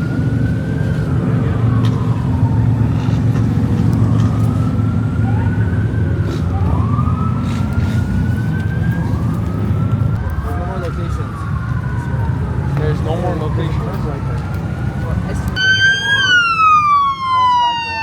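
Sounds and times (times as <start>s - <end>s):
low engine rumble: 0.0s - 18.0s
police siren wailing: 0.0s - 18.0s.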